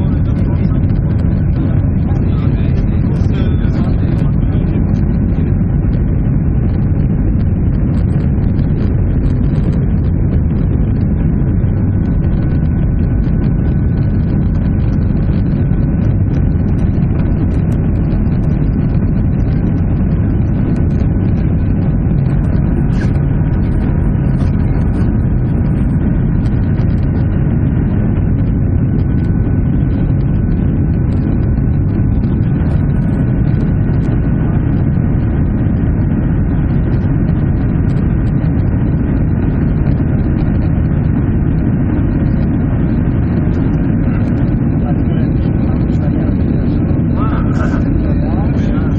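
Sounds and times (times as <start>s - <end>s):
aircraft cabin engine rumble: 0.0s - 48.9s
faint steady hum: 0.0s - 48.9s.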